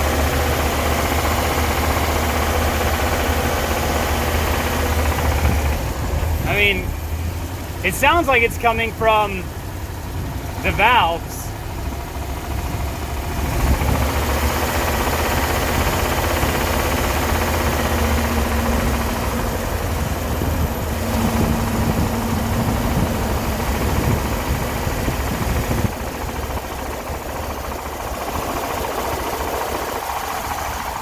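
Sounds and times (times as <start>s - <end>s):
light engine ticking: 0.0s - 7.8s, 11.5s - 31.0s
van engine running: 0.0s - 31.0s.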